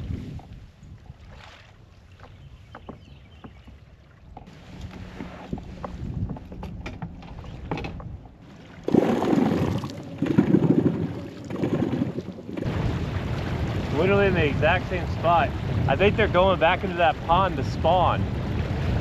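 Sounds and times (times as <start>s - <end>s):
wind noise: 0.0s - 3.6s, 4.4s - 19.0s
water knocks and splashes: 0.0s - 17.4s, 18.2s - 19.0s.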